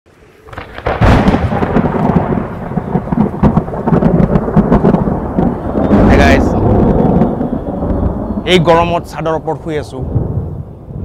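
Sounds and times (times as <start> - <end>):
rolling thunder rumble: 0.2 - 11.0.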